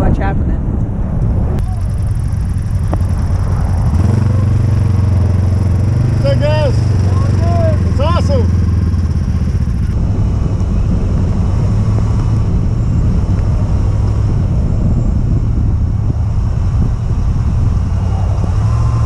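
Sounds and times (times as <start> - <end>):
tyre and road noise: 0.0 - 19.0
pickup truck engine rumble: 0.7 - 19.0.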